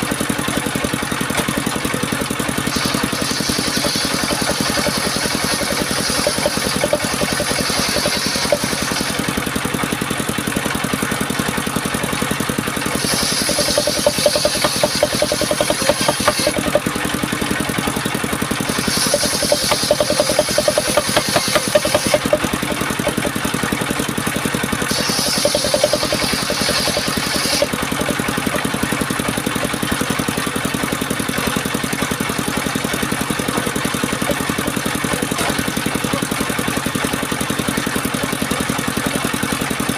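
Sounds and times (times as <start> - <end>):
circular saw cutting wood: 0.0 - 10.6, 12.0 - 39.5
engine drone: 0.0 - 39.9.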